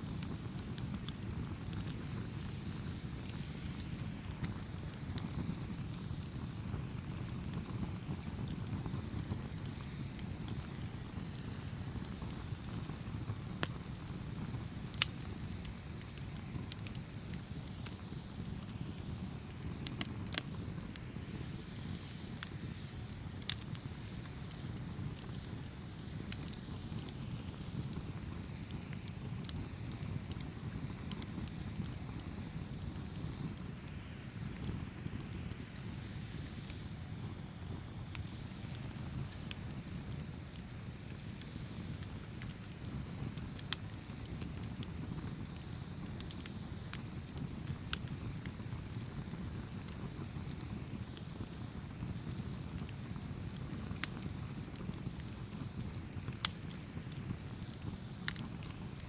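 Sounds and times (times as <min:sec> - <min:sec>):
burning wood popping and crackling: 0:00.0 - 0:59.0
campfire flames rumbling: 0:00.0 - 0:59.0.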